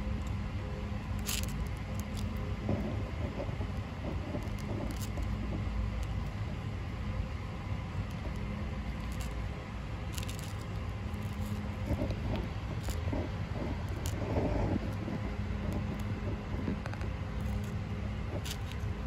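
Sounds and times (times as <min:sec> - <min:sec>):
steady low rumble: 0:00.0 - 0:19.0
tortoises crunching greens: 0:00.0 - 0:19.0.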